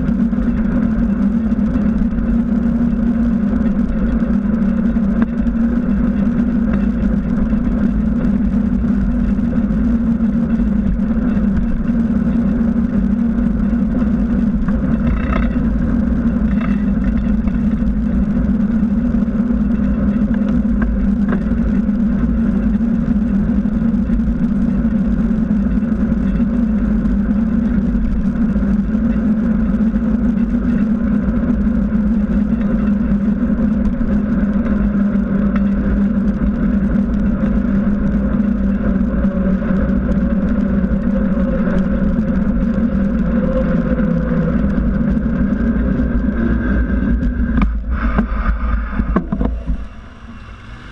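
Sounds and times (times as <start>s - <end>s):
bicycle tyre rolling on asphalt: 0.0s - 50.9s
wind: 0.0s - 50.9s.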